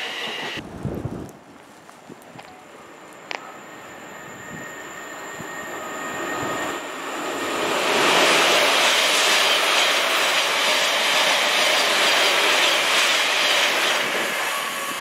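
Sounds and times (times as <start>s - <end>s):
passenger train running past: 0.0s - 0.7s, 2.4s - 15.0s.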